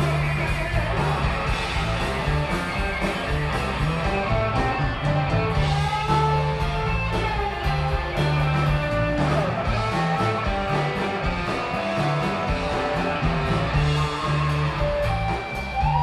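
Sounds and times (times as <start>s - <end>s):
drums: 0.0s - 16.0s
electric bass: 0.0s - 16.0s
electric guitar lead line: 0.0s - 16.0s.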